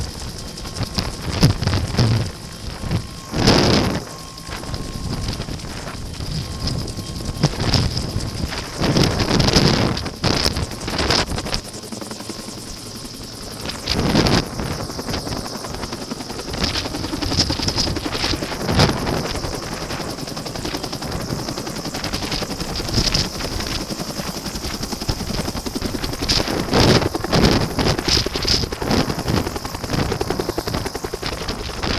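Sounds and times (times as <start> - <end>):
helicopter rotor beating: 0.0 - 31.9.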